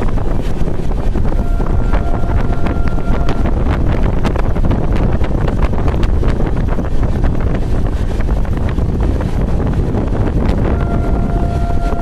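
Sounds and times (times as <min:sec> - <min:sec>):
train coaches rumbling: 0:00.0 - 0:12.0
wind rushing on microphone: 0:00.0 - 0:12.0.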